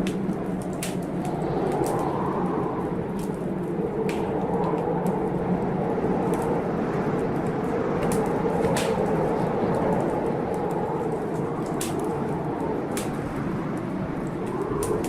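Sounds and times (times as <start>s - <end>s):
blizzard wind blowing: 0.0s - 15.0s
wood fire crackling: 0.0s - 15.0s.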